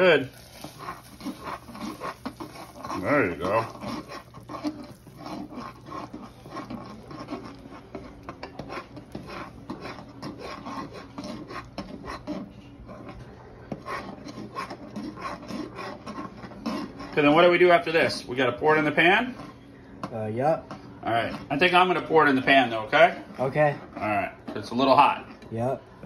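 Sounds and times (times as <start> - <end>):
utensil scraping a saucepan: 0.0 - 25.5.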